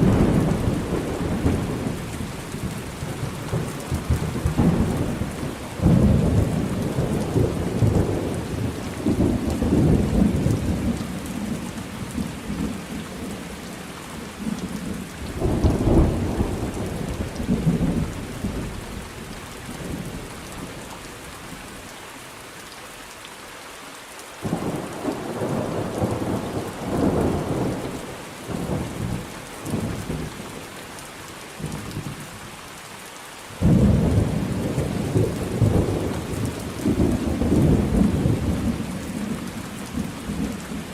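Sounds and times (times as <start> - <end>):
rolling thunder rumbles: 0.0 - 13.7, 14.4 - 20.9, 24.4 - 30.6, 33.6 - 40.9
steady rain: 0.0 - 40.9.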